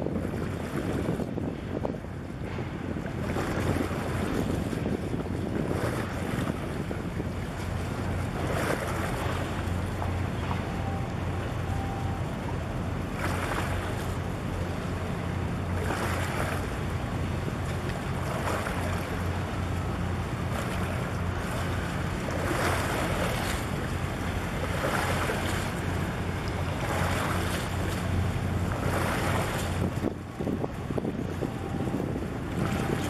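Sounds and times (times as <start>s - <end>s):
water sloshing and slapping: 0.0s - 33.0s
wind buffeting microphone: 0.0s - 33.0s
steady low drone: 6.2s - 33.0s.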